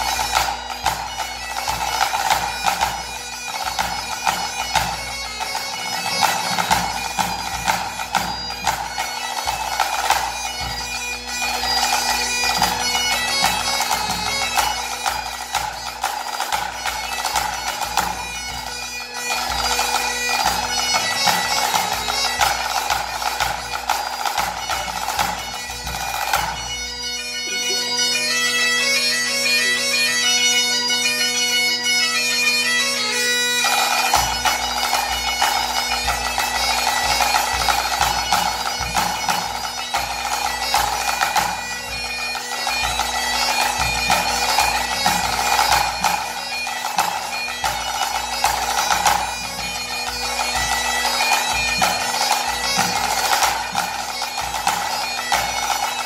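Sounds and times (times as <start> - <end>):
tenor drum: 0.0 - 27.8, 33.6 - 56.0
bagpipe playing a tune: 0.0 - 56.0.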